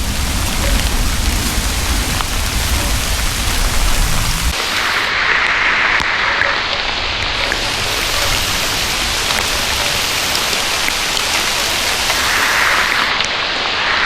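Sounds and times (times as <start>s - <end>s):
raindrops on forest floor: 0.0s - 14.0s
steady rain: 0.0s - 14.0s.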